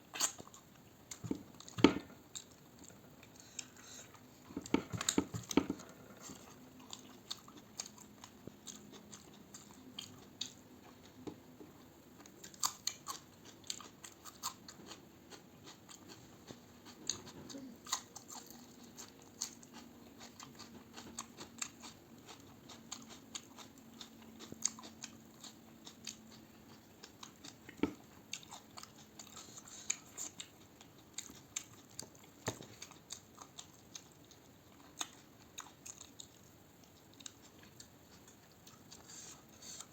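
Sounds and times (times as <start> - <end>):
person chewing food: 0.1 - 39.9.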